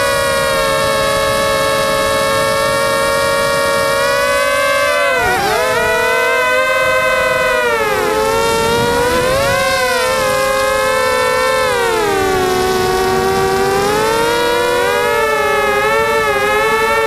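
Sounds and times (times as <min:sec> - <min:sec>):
racing drone motors whining: 0:00.0 - 0:17.0.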